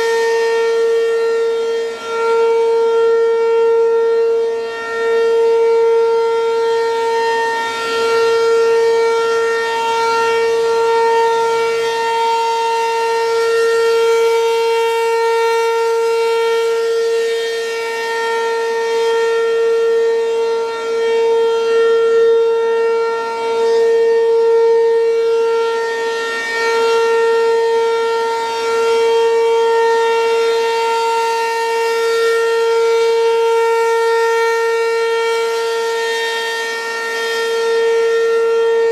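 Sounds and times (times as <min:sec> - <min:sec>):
mechanical warning siren: 0:00.0 - 0:38.9.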